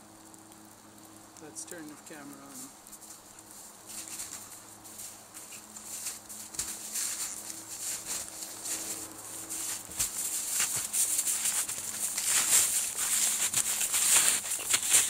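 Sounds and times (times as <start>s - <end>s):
snowshoes crunching through snow: 2.5s - 15.0s.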